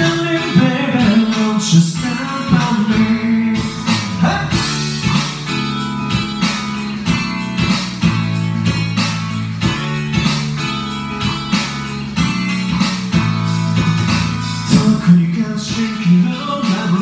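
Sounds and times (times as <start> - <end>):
guitar-led band music: 0.0 - 17.0.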